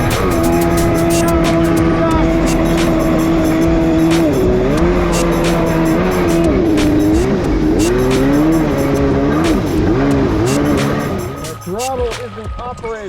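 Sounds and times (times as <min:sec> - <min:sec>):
jet ski engine running: 0:00.0 - 0:12.1.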